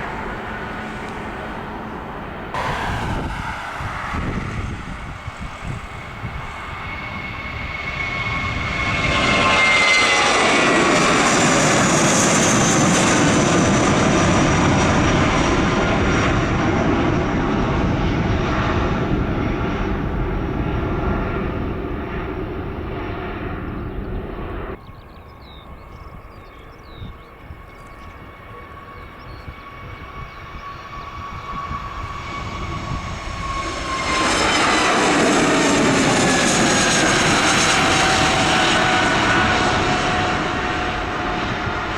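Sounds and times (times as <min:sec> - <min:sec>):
airliner passing by: 0:00.0 - 0:41.9
distant aircraft engine whine: 0:00.0 - 0:41.9.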